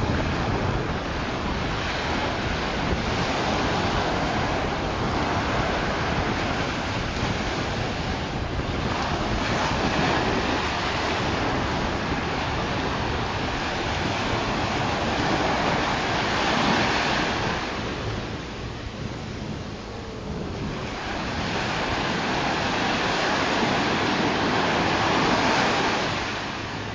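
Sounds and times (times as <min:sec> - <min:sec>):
ocean surf washing onto beach: 0:00.0 - 0:26.9
wind buffeting microphone: 0:00.0 - 0:26.9.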